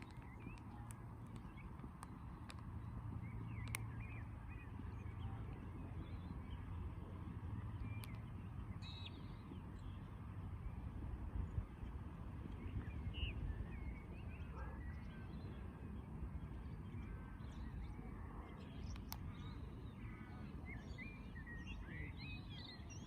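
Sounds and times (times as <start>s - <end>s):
low outdoor rumble: 0.0s - 23.0s
small birds chirping: 0.0s - 23.0s.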